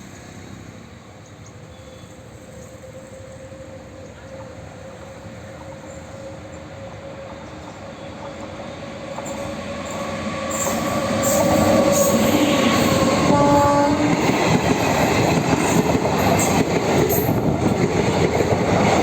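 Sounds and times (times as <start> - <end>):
rail and wheel noise: 0.0 - 19.0
train rumble and hum: 0.0 - 19.0.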